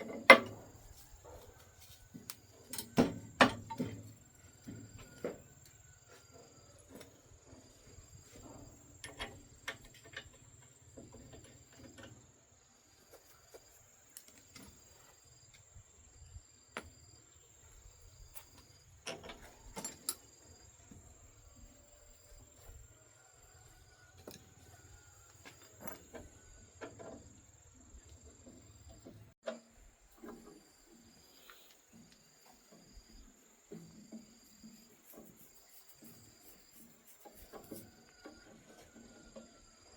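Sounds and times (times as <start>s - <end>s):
insect chirping: 0.0s - 39.9s
insects trilling: 0.0s - 39.9s.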